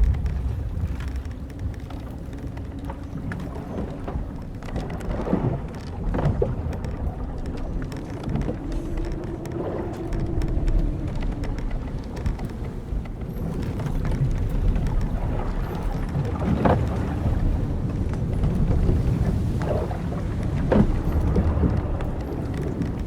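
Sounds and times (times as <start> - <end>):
low rush of wind and sea: 0.0 - 23.0
wooden ship creaking: 0.0 - 23.0.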